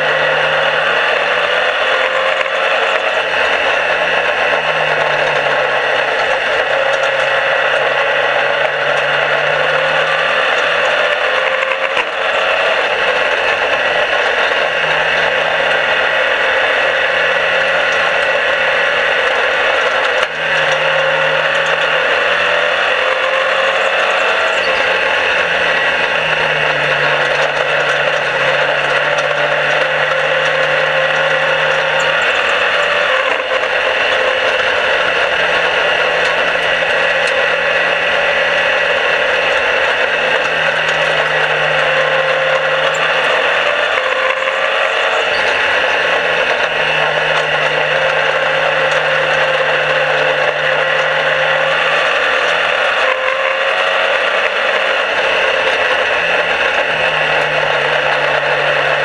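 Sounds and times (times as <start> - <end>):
race car engine running hard: 0.0 - 59.0
wind and track noise: 0.0 - 59.0.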